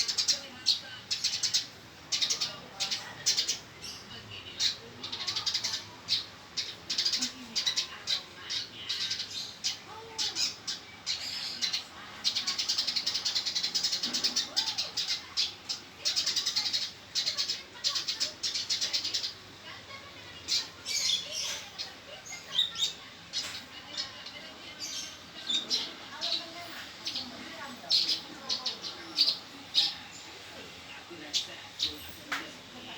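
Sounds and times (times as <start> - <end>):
sparrow chirping harshly: 0.0 - 32.2.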